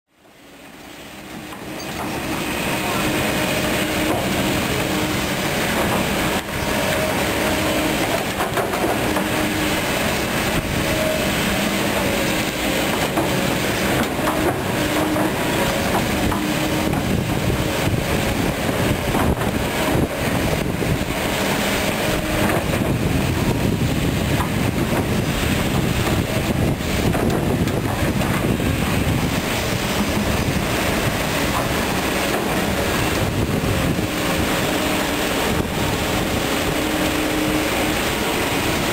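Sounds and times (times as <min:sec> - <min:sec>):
diesel engines under load: 0:00.2 - 0:38.9
hydraulics moving bucket: 0:01.4 - 0:38.9.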